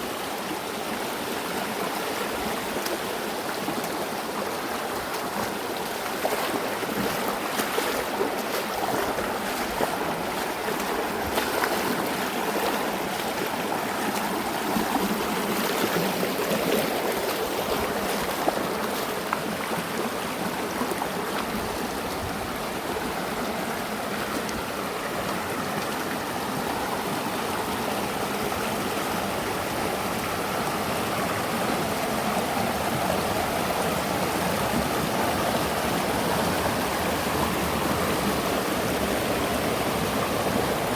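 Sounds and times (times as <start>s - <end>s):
river flowing over rocks: 0.0s - 40.9s.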